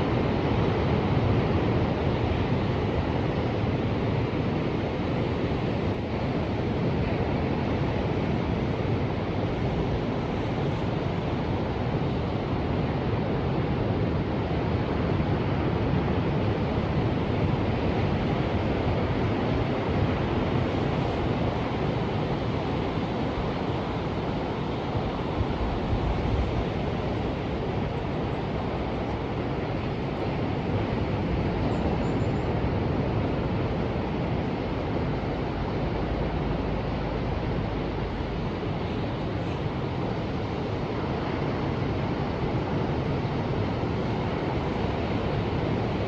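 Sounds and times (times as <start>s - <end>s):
ocean surf: 0.0s - 46.0s.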